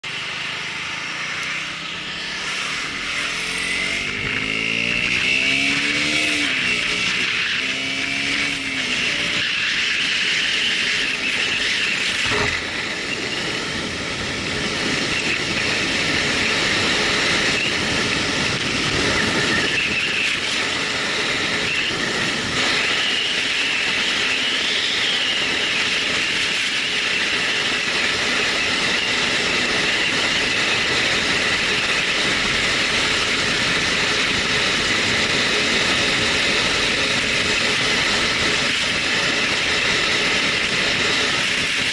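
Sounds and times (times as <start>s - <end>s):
high whine: 0.0s - 41.9s.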